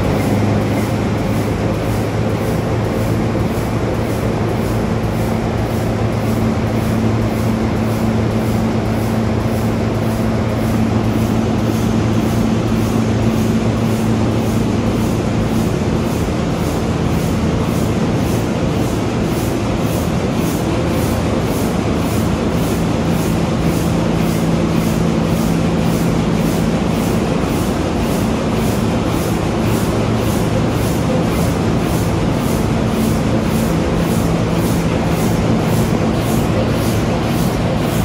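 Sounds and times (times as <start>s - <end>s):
diesel engine low hum: 0.0s - 38.0s.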